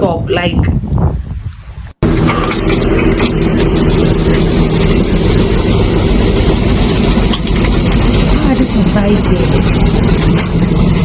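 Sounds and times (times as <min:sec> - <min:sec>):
heavy engine humming: 0:02.0 - 0:11.0.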